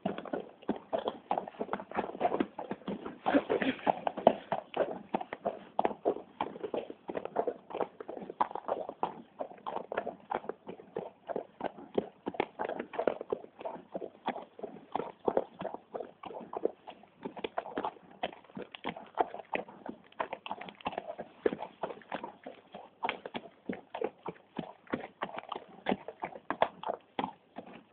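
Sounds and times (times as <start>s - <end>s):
horse hoofbeats on gravel: 0.0s - 27.9s.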